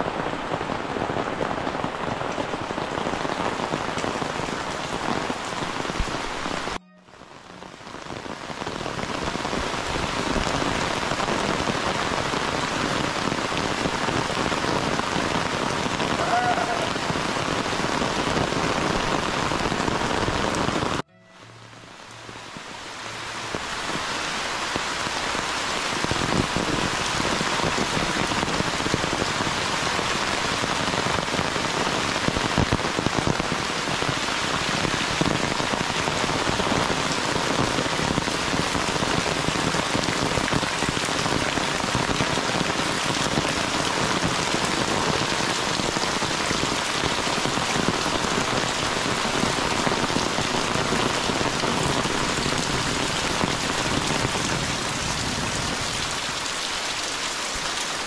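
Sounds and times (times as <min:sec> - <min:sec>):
heavy rain on roofs and leaves: 0:00.0 - 0:58.0.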